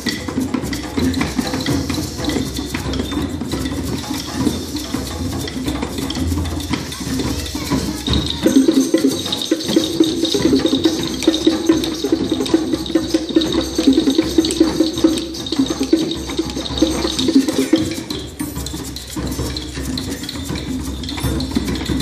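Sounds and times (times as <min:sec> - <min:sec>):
shakers and hand drums: 0:00.0 - 0:22.0.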